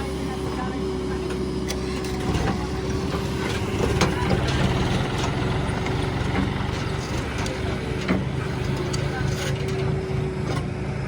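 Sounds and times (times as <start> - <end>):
diesel engine running: 0.0 - 11.0
sharp knocks and clanks: 1.3 - 10.8.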